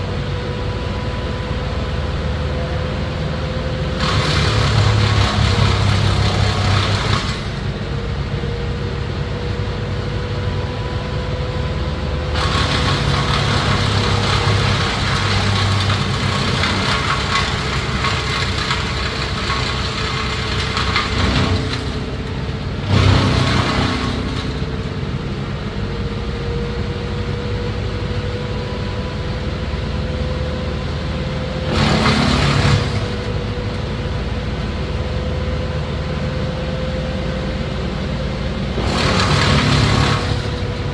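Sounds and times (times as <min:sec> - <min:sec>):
tree-cutting machine engine: 0:00.0 - 0:40.9.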